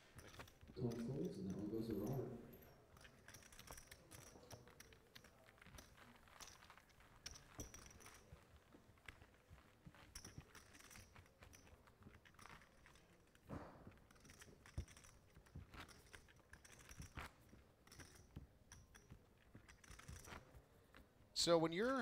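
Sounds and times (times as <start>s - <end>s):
clay poker chips clicking: 0.0s - 21.0s
light ringing clinks: 0.0s - 21.0s.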